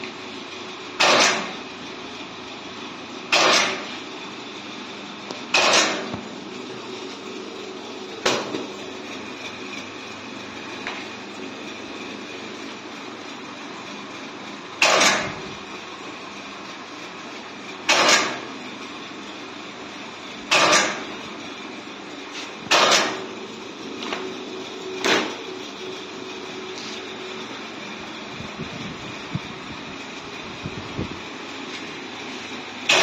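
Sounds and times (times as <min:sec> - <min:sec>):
machine motor hum: 0:00.0 - 0:33.0.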